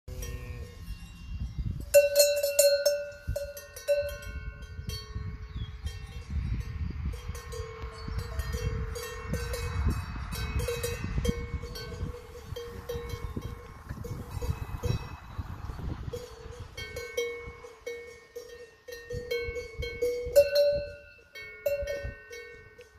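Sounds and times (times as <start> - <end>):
cowbell clanking: 0.1 - 22.9.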